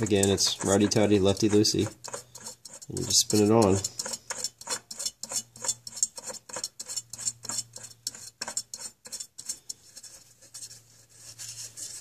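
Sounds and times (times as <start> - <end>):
hand rasping against metal filter: 0.0 - 12.0.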